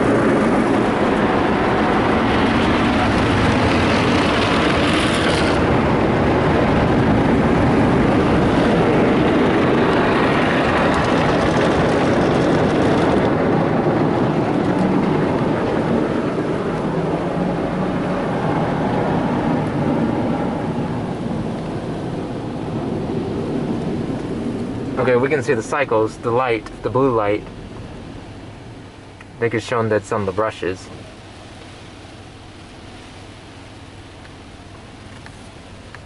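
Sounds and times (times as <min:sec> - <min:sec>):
car wash brushes and water: 0:00.0 - 0:36.0.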